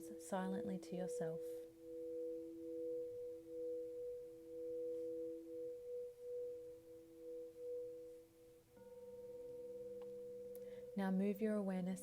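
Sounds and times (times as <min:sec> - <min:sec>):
crystal singing bowls ringing: 0:00.0 - 0:12.0.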